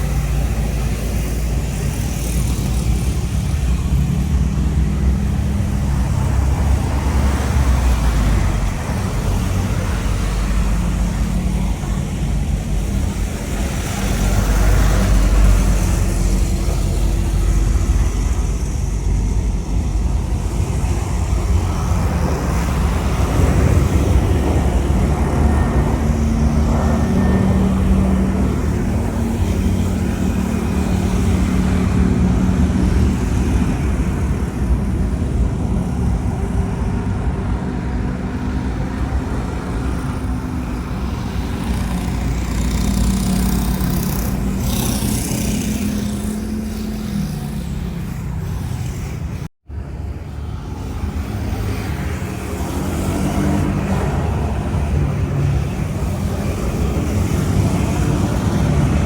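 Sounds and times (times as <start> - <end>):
airliner engines rumbling: 0.0 - 59.0
road traffic: 0.0 - 59.0.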